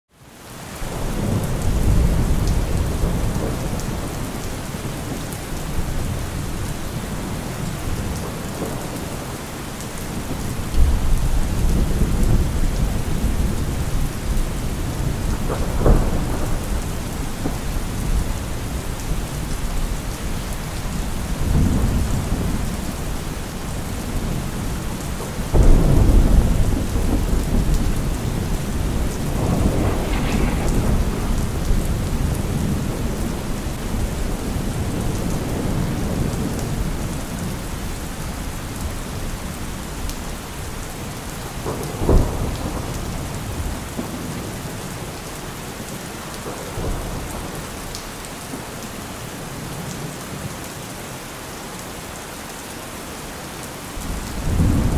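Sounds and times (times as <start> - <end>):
heavy rain falling: 0.1 - 54.9
thunder rumbling: 0.9 - 45.2, 54.0 - 54.9.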